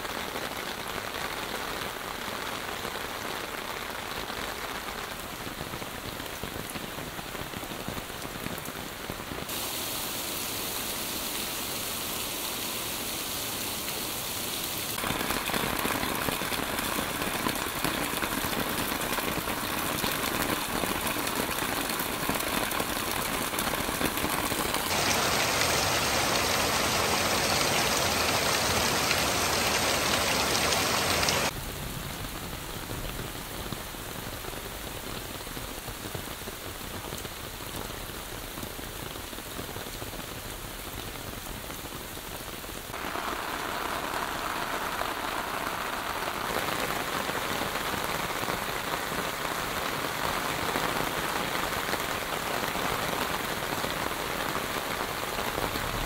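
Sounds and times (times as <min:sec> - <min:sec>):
heavy rain on ground and leaves: 0:00.0 - 0:56.0.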